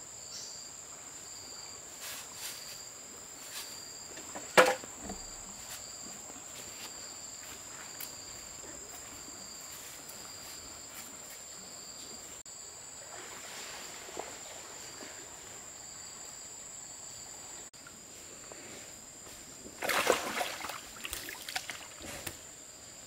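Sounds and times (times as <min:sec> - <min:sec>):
insects droning high-pitched: 0:00.0 - 0:23.0
lower insect chirp: 0:00.0 - 0:23.0.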